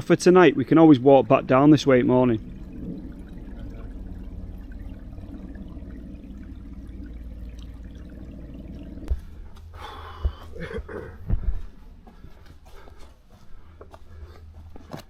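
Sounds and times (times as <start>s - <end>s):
stream water trickling: 0.0s - 15.0s.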